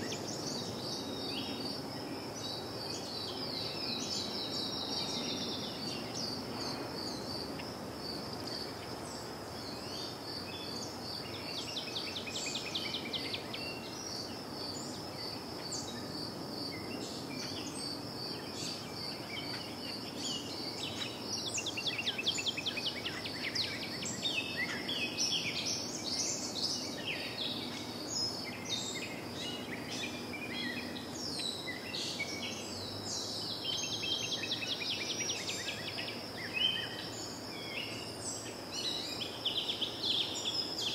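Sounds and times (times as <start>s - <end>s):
low background noise: 0.0s - 40.9s
small birds chirping: 0.0s - 40.9s.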